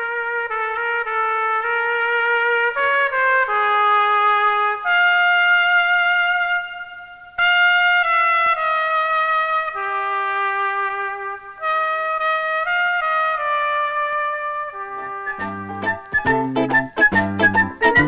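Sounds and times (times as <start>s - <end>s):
solo trumpet melody: 0.0s - 18.0s.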